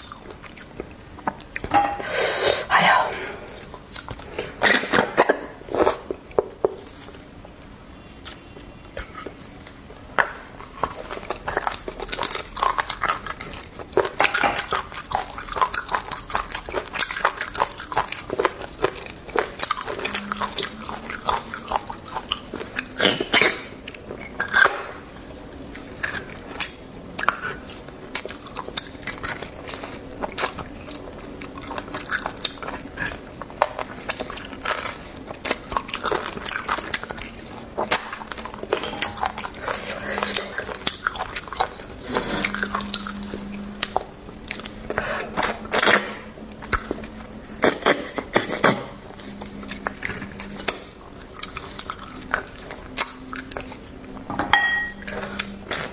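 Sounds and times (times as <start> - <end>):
wet chewing and mouth smacks: 8.2 - 55.9.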